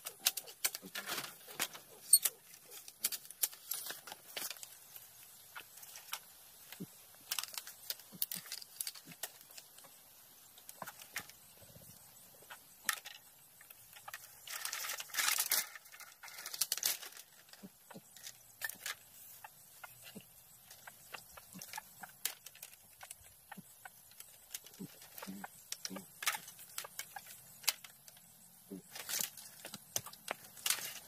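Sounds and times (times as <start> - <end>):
crunching rustle: 0.0 - 31.0
rustling and crackling: 0.0 - 31.0.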